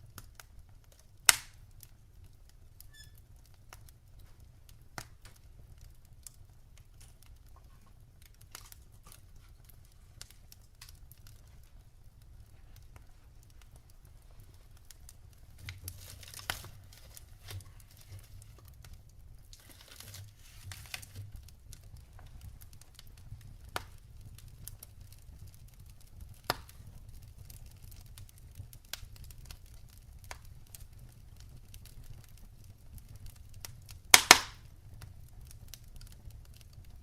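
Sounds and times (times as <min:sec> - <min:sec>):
fire low rumble: 0:00.0 - 0:37.0
wood fire crackling: 0:00.0 - 0:37.0.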